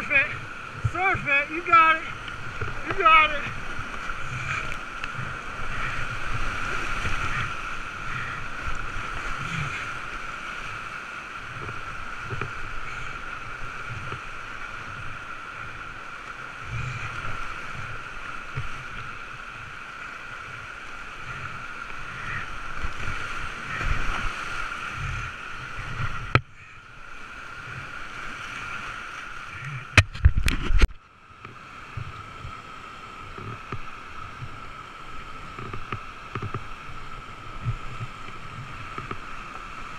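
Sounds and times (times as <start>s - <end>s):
rushing rapids: 0.0s - 39.9s.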